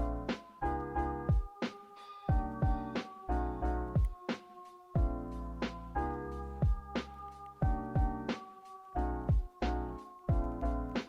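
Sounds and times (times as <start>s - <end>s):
mellow beat music: 0.0s - 11.0s.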